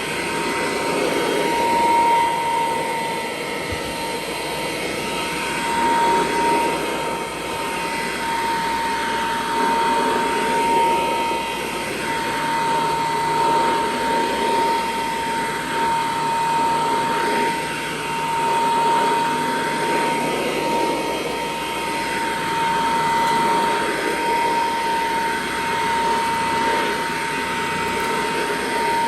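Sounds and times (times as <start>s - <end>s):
vacuum cleaner running on carpet: 0.0s - 29.0s.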